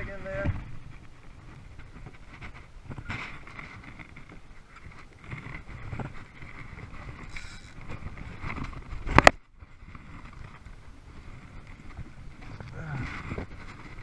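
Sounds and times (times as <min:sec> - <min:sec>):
wind: 0:00.0 - 0:14.0
water lapping around kayak: 0:00.3 - 0:14.0.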